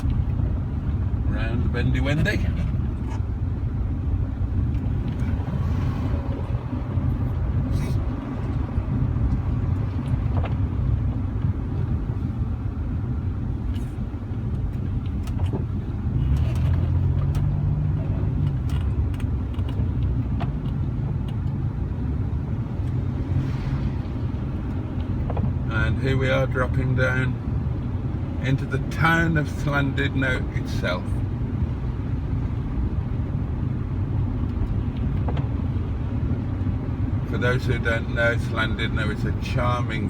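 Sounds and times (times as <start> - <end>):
car engine and tyre noise: 0.0 - 40.0.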